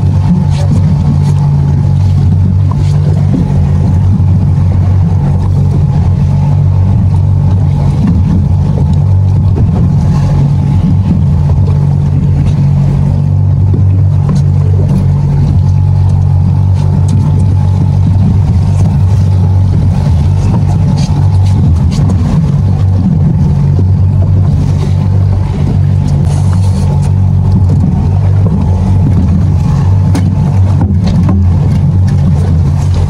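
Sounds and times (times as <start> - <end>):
outboard motor droning: 0.0 - 33.0
water noise: 0.0 - 33.0
wind noise: 0.0 - 33.0.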